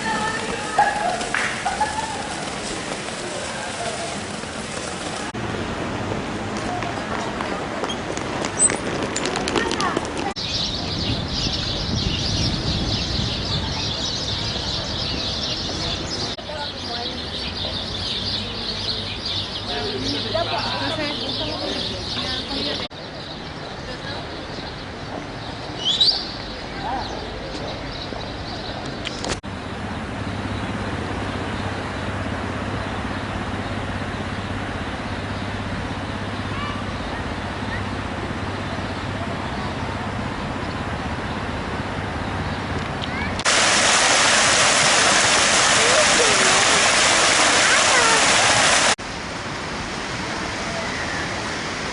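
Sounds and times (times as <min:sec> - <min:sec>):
flock of birds chirping: 0:00.0 - 0:05.4, 0:06.7 - 0:49.3
road noise: 0:00.0 - 0:51.9.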